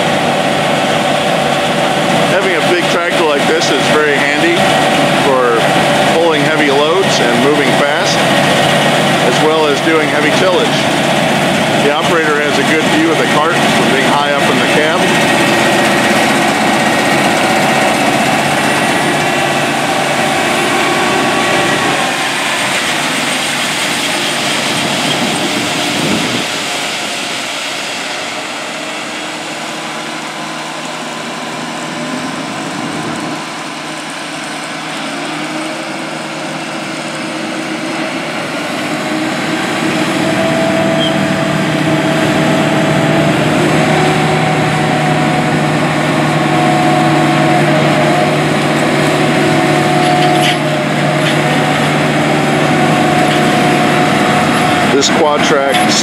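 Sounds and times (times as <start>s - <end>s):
diesel tractor engine: 0.0s - 56.0s
grain auger unloading corn: 0.0s - 56.0s.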